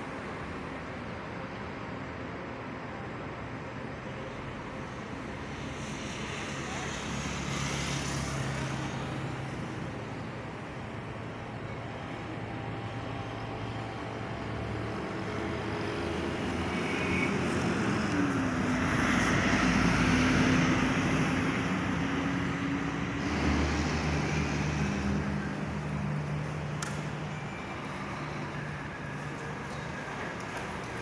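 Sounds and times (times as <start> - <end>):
bus diesel engine passing: 0.0 - 31.0.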